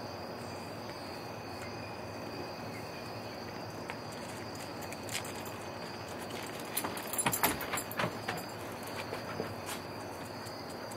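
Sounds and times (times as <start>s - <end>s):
insects chirring: 0.0s - 10.9s.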